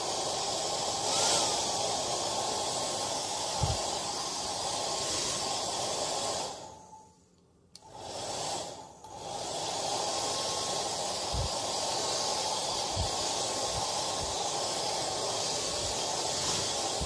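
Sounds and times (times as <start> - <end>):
hair dryer blowing: 0.0 - 6.8, 7.8 - 17.0.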